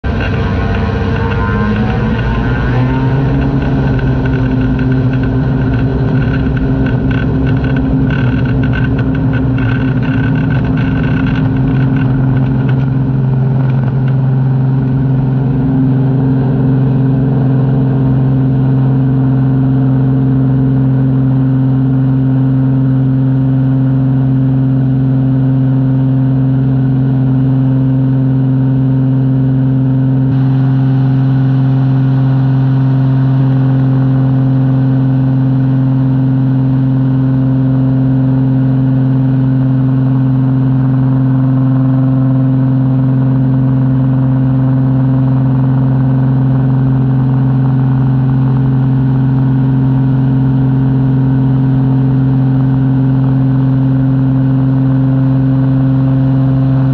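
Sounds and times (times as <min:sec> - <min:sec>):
airplane engine droning: 0:00.0 - 0:24.0, 0:28.6 - 0:56.9.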